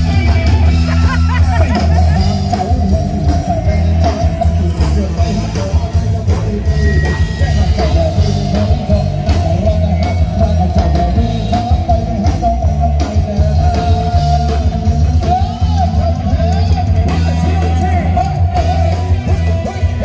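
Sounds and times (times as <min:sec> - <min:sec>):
loud band music: 0:00.0 - 0:20.0.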